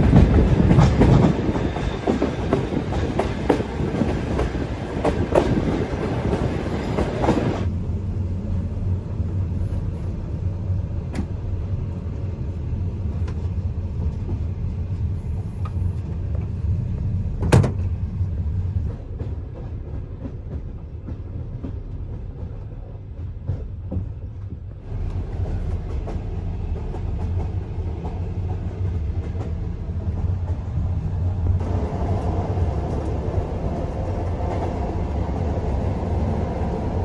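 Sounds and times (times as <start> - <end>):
train carriage rumbling on rails: 0.0 - 37.0.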